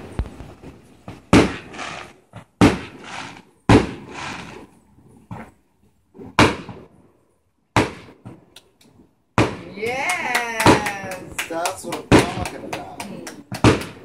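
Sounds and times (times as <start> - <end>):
fireworks bursting with bangs: 0.0 - 5.5, 6.1 - 7.0, 7.7 - 8.5, 9.3 - 14.0.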